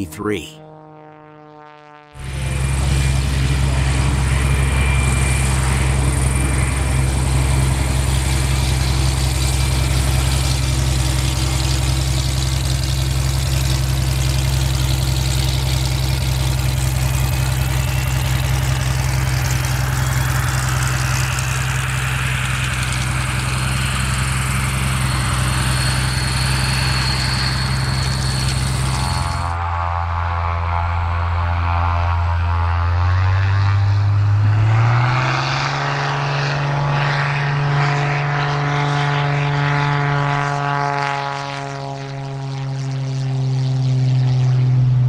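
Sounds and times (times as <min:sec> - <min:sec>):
plane engine and propeller running: 0:00.0 - 0:45.0.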